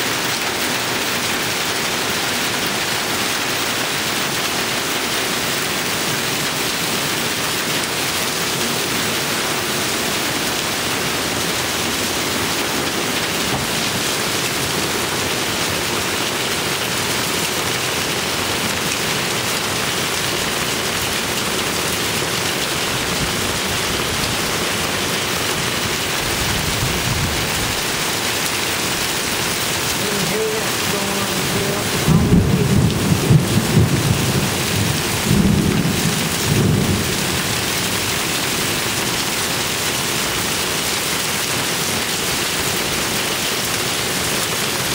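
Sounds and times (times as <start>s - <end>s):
hail and rain pelting: 0.0s - 44.9s.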